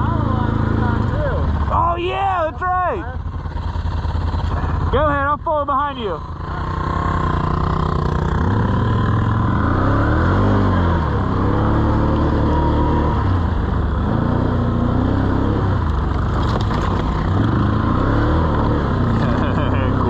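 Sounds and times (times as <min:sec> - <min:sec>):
quad engine revving: 0:00.0 - 0:02.4, 0:06.2 - 0:20.0.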